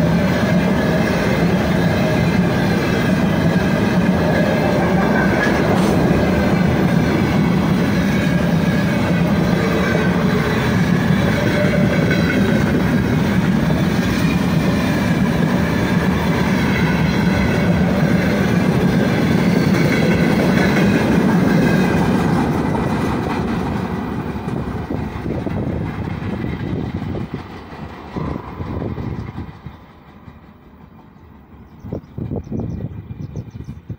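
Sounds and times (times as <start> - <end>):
freight train wheels rumbling: 0.0 - 33.9.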